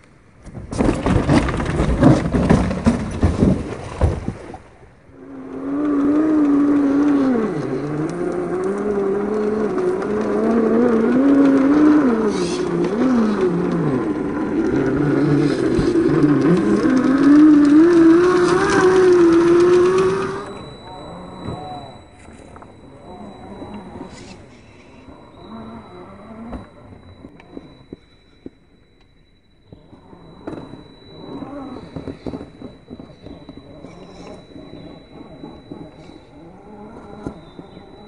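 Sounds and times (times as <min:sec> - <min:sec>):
electric motor and gearbox whine: 0:00.0 - 0:38.0.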